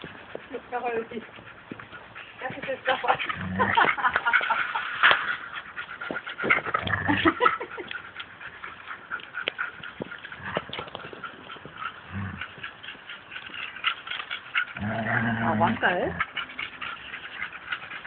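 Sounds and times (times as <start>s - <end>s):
dogs playing and tussling: 0.0s - 18.0s.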